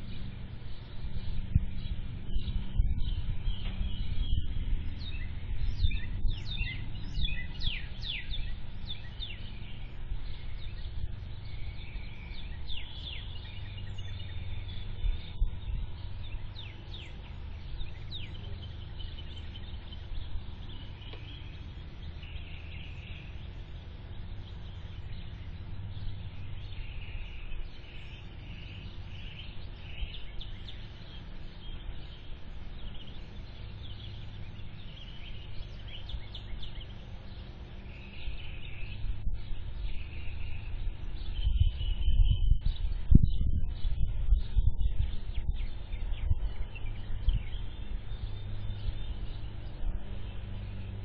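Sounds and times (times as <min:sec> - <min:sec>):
small birds chirping: 0:00.0 - 0:51.0
steady low rumble: 0:00.0 - 0:51.0.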